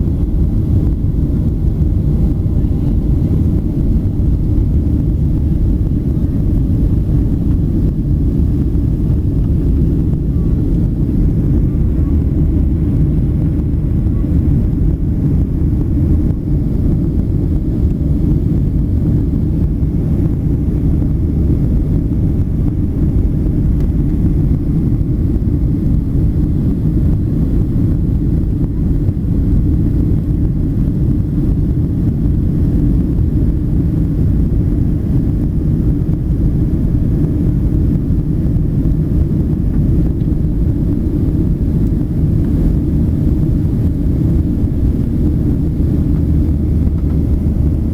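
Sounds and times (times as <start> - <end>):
airplane engine rumble in cabin: 0.0 - 47.9.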